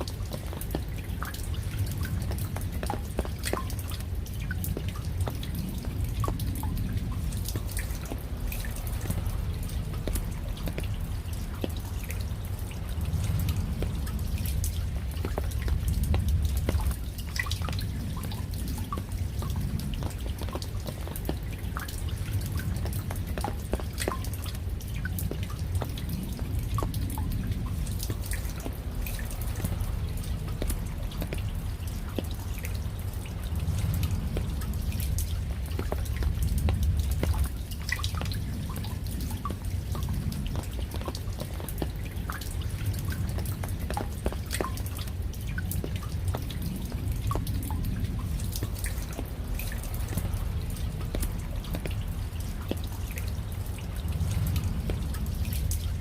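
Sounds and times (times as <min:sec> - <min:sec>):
raindrops dripping and tapping: 0:00.0 - 0:56.0
low rumble: 0:00.5 - 0:56.0.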